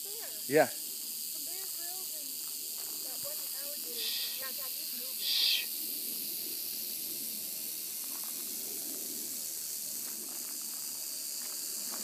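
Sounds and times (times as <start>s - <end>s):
rattlesnake rattling: 0.0s - 12.0s.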